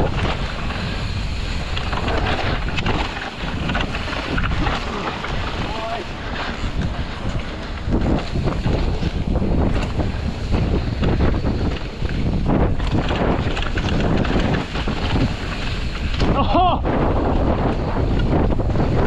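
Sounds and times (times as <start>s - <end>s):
bike knocking and rattling: 0.0s - 19.0s
bike tyre noise: 0.0s - 19.0s
wind rushing over microphone: 0.0s - 19.0s.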